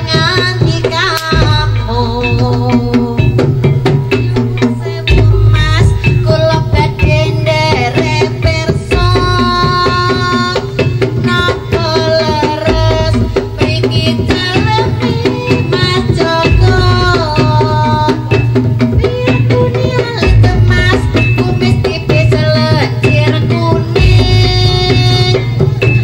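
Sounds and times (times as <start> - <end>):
hand drums beating: 0.0 - 26.0
sustained melody line: 0.0 - 26.0.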